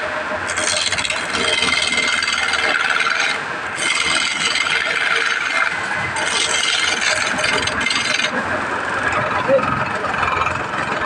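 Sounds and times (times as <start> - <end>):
chisel cutting wood on lathe: 0.0 - 11.0
wood lathe running: 0.0 - 11.0.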